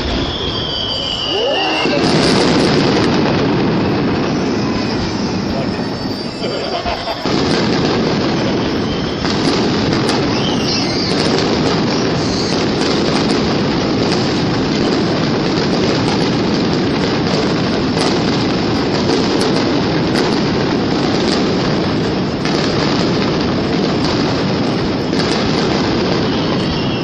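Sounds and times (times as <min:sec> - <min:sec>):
fireworks crackling and bursting: 0:00.0 - 0:27.0.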